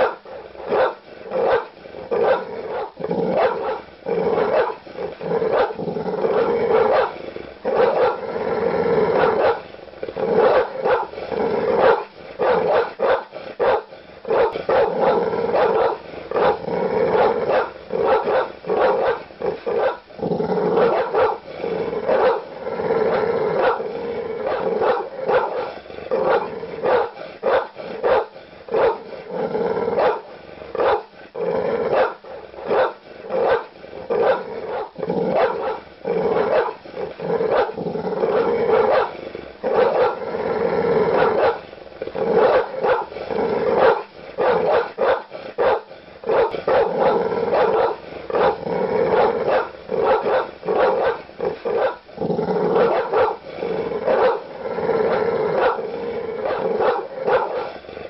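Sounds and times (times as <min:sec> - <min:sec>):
large dog barking: 0:00.0 - 0:40.3, 0:40.9 - 0:57.9
dog growling: 0:00.0 - 0:58.0.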